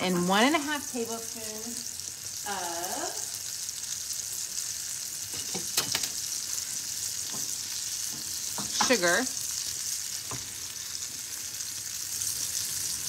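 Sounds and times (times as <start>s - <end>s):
onion sizzling in skillet: 0.0s - 13.0s.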